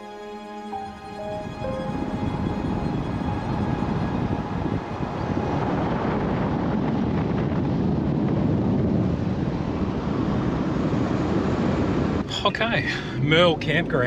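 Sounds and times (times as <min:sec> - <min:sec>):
tyres and wind rushing: 0:00.0 - 0:14.0.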